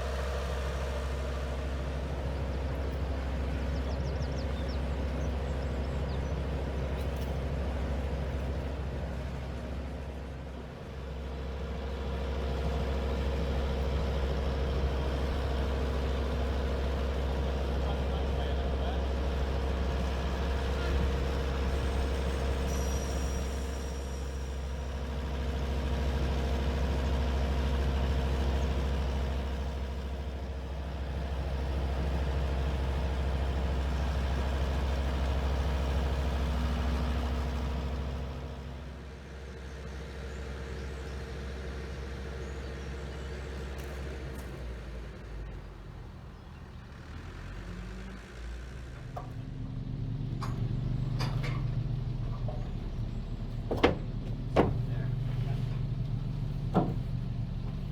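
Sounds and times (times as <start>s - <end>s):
truck diesel engine running: 0.0s - 57.9s.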